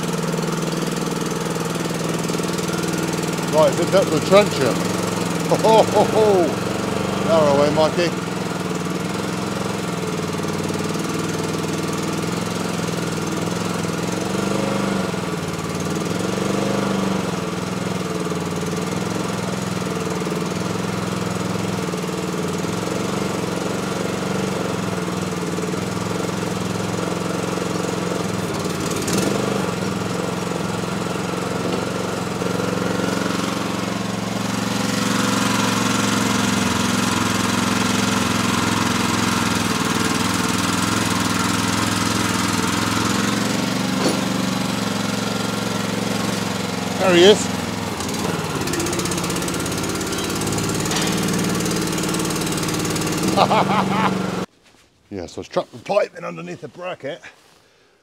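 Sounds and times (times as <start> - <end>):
skid steer engine running: 0.0 - 54.5.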